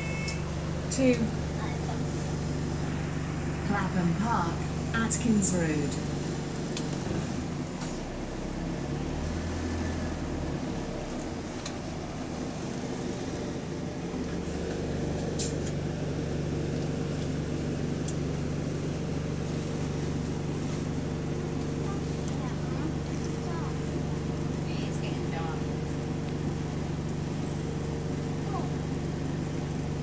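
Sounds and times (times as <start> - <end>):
bus engine and fan drone: 0.0 - 30.0.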